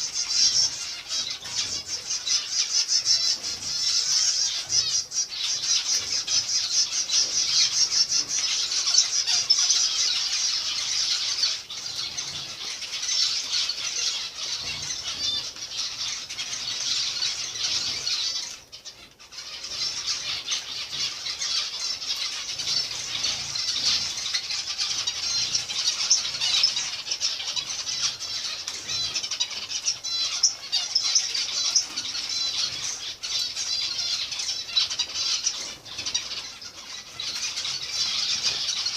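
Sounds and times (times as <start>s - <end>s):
finches chattering: 0.0s - 38.9s.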